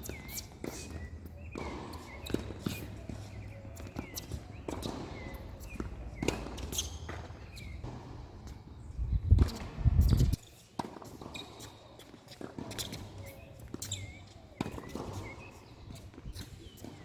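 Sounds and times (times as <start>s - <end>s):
tennis ball bouncing: 0.0s - 8.6s, 10.8s - 17.0s
small birds chirping: 0.0s - 10.6s, 12.8s - 17.0s
shoes scuffing on court: 0.0s - 17.0s.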